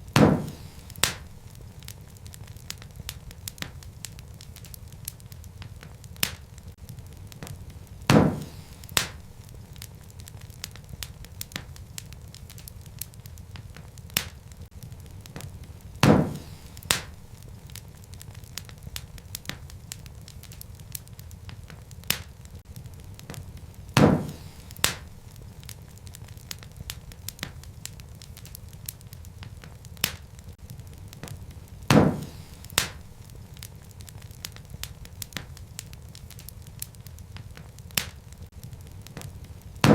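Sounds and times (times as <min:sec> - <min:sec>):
fire low rumble: 0:00.0 - 0:39.9
loud sharp pops from fire: 0:00.0 - 0:39.9
wood fire crackling: 0:00.0 - 0:39.9.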